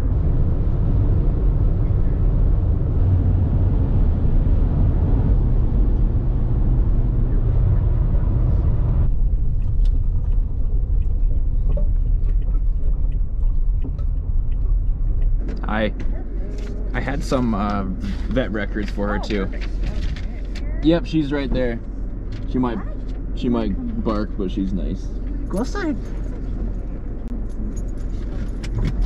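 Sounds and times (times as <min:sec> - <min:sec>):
road and tyre noise: 0:00.0 - 0:29.0.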